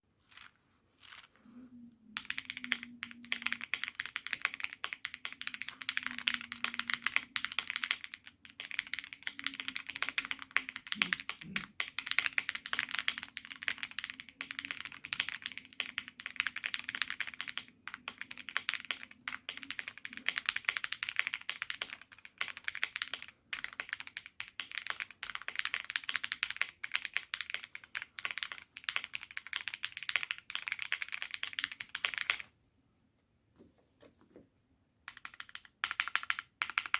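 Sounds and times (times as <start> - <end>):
fast typing on mechanical keyboard: 2.2 - 32.5, 35.1 - 36.9.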